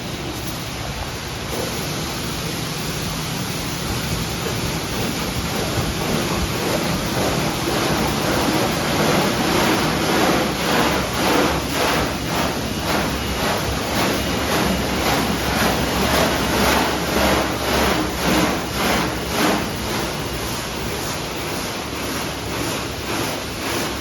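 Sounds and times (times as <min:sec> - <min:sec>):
car wash water spray: 0:00.0 - 0:24.0.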